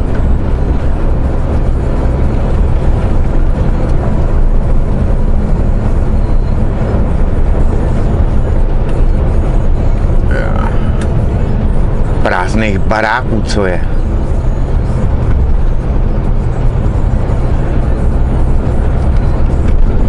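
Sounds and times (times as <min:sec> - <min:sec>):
road noise: 0:00.0 - 0:20.0
truck diesel engine drone: 0:00.0 - 0:20.0.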